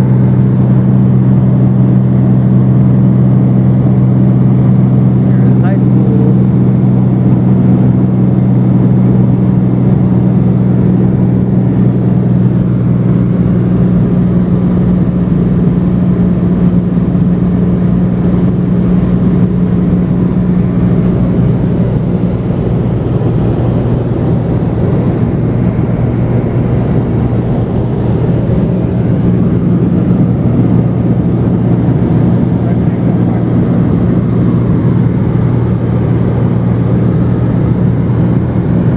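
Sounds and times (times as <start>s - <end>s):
airplane engine and propeller drone: 0.0s - 38.9s.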